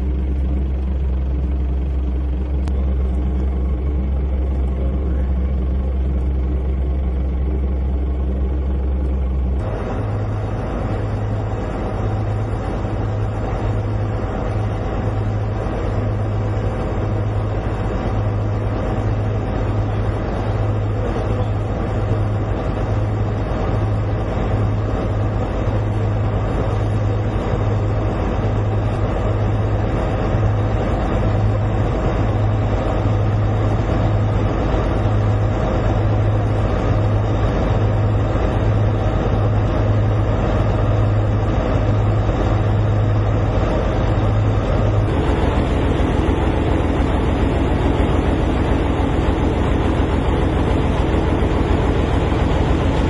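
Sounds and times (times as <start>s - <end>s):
large engine rumbling: 0.0s - 53.0s.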